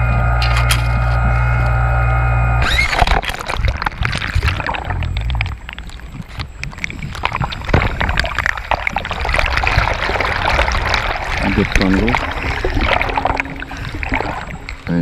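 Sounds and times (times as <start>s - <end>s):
running water hissing: 0.0s - 15.0s
wind rumbling on microphone: 0.0s - 15.0s.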